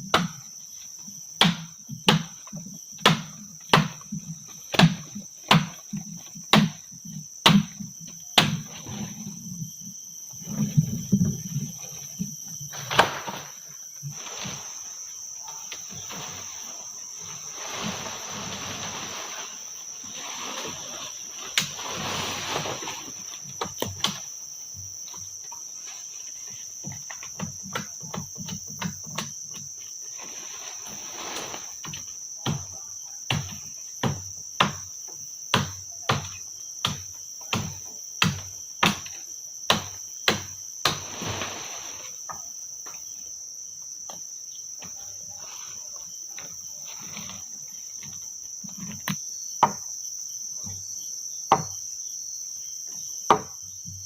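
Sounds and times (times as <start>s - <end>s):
forest insect drone: 0.0s - 54.0s.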